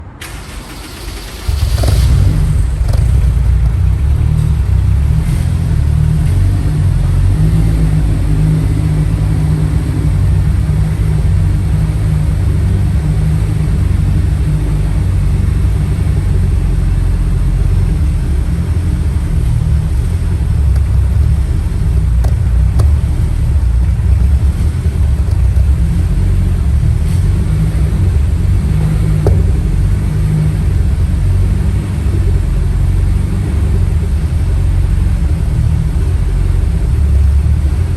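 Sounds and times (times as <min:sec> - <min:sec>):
car engine starting and idling: 0:00.0 - 0:37.9.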